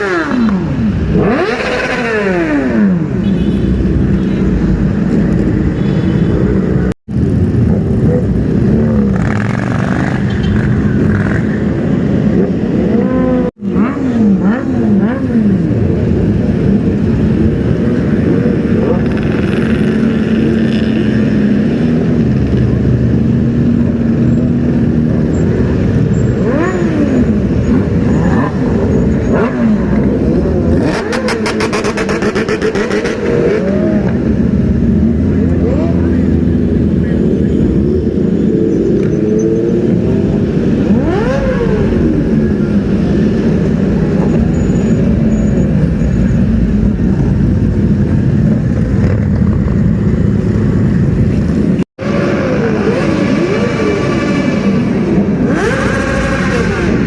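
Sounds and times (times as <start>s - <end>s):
motorcycles revving and passing: 0.0s - 57.0s.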